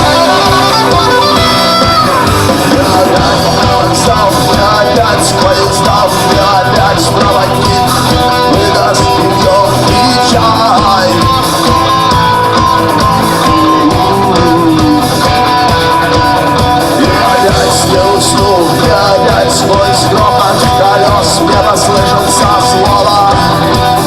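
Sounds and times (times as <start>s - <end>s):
person singing: 0.0s - 24.0s
rock band guitars and drums: 0.0s - 24.0s.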